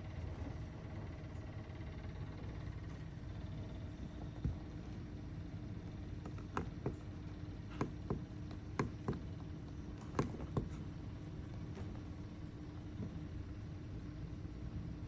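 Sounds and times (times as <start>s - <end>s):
cooler hum: 0.0s - 15.0s.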